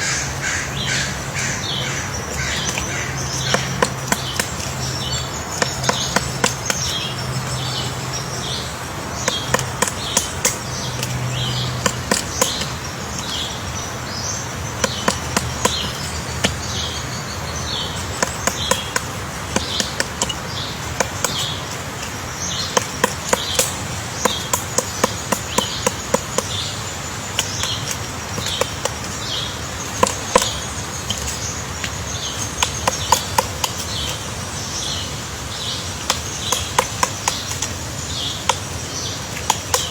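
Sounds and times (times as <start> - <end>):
woodpecker tapping on wood: 0.0 - 39.9.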